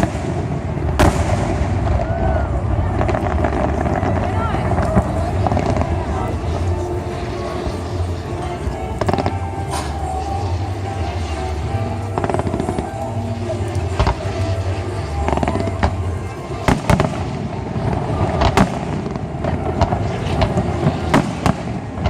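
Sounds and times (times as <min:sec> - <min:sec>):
fireworks bursting: 0:00.0 - 0:22.0
soundtrack music with deep bass: 0:03.0 - 0:22.0.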